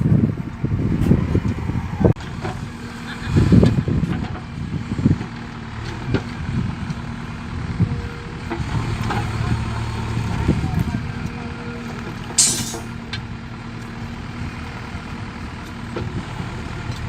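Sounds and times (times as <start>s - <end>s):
diesel engine working: 0.0s - 17.0s.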